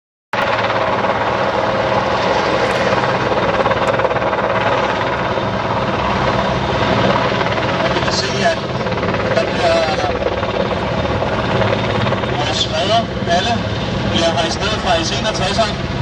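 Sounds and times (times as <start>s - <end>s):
helicopter turbine engines and rotors: 0.4s - 16.0s.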